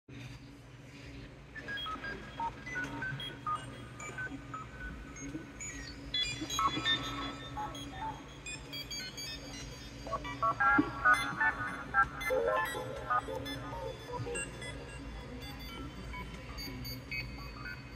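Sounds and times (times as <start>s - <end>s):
steady low hum: 0.1s - 17.9s
synthesizer beeps at random pitches: 1.7s - 17.9s.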